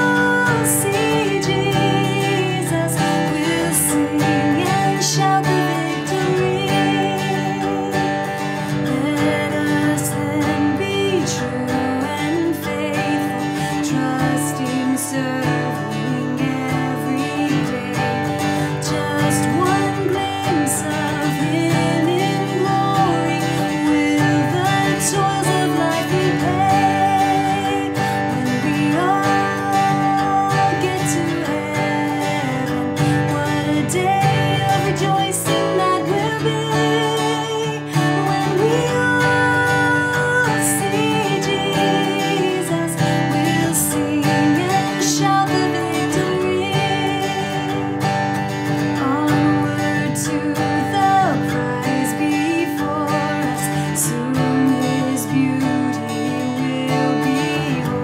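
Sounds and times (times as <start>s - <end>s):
person singing a hymn: 0.0s - 48.1s, 48.9s - 58.0s
strummed acoustic guitar: 0.0s - 58.0s.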